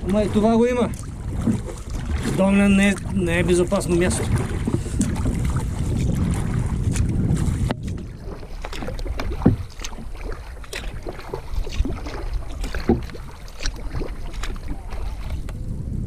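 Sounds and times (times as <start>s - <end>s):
paddle splashing in water: 0.0s - 15.6s.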